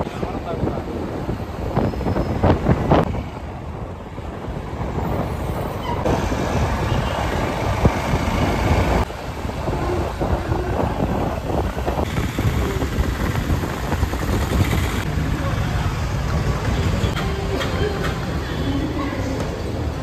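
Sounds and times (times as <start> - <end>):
traffic noise: 0.0 - 20.0
vehicle engine and road rumble: 0.0 - 20.0
wind: 0.0 - 20.0.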